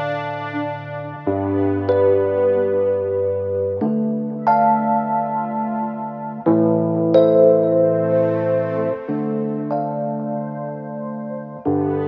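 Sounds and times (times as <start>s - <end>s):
electric piano chords: 0.0s - 12.0s.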